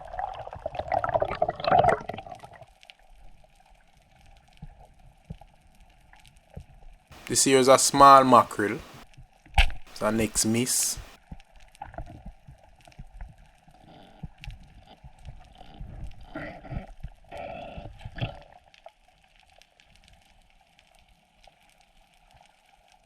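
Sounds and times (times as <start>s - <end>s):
underwater gurgling and sloshing: 0.0s - 7.2s, 11.0s - 23.0s.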